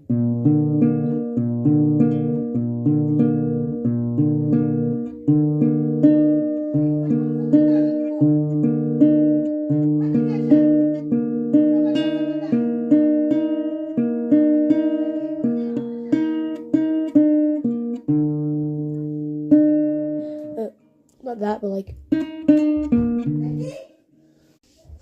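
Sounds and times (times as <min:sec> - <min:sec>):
acoustic guitar chords: 0:00.0 - 0:23.6.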